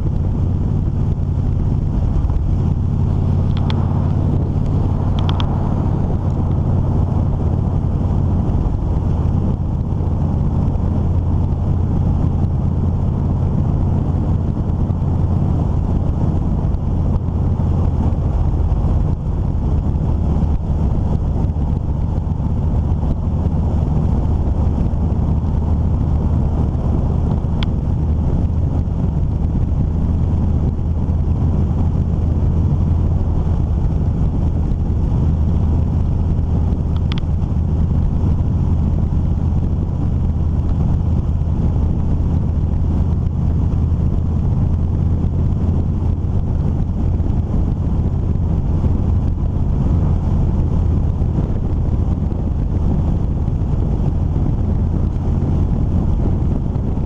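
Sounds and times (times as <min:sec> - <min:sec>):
vehicle engine hum and road rumble: 0:00.0 - 0:57.0.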